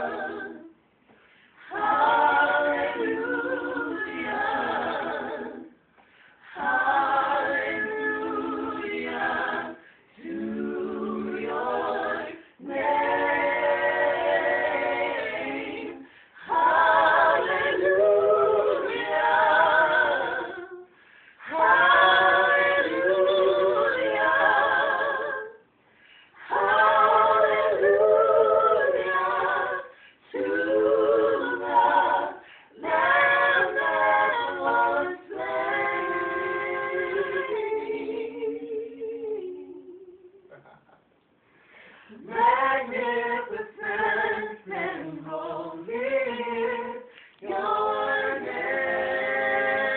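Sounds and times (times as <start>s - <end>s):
voices singing a cappella: 0.0s - 49.9s.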